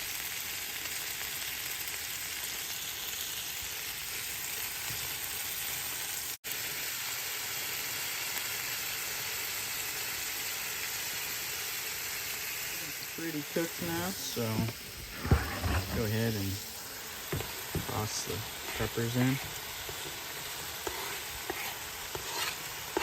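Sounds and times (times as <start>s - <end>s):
chicken sizzling on a grill: 0.0s - 23.0s.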